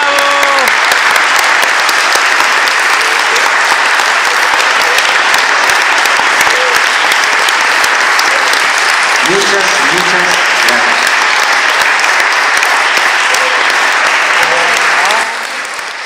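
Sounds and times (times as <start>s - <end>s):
audience applause: 0.0s - 16.0s.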